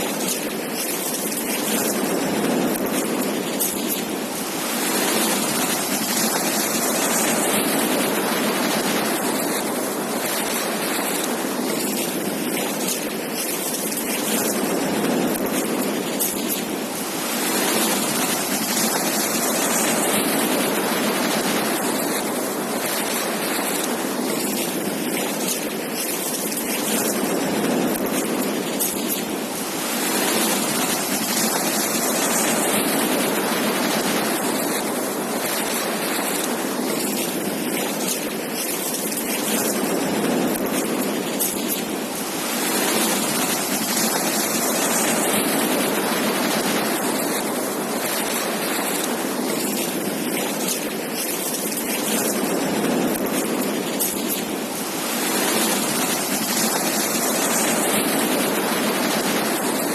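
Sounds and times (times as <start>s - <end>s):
ocean surf washing onto beach: 0.0s - 59.9s.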